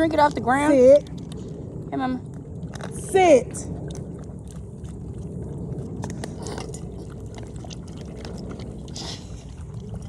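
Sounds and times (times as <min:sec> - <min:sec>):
dog lapping water: 0:00.0 - 0:10.0.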